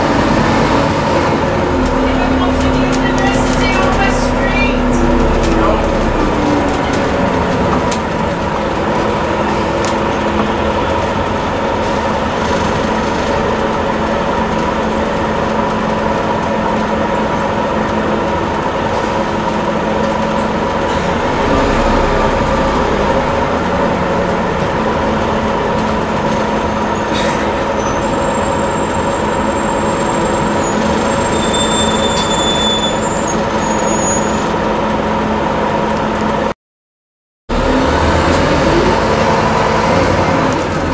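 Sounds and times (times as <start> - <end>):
bus diesel engine running: 0.0 - 36.5, 37.5 - 40.9.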